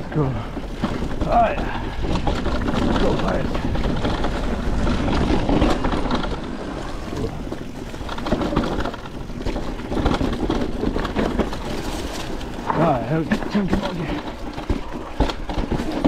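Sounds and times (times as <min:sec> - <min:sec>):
mountain bike rattling on rocky trail: 0:00.0 - 0:16.0
wind buffeting microphone: 0:00.0 - 0:16.0.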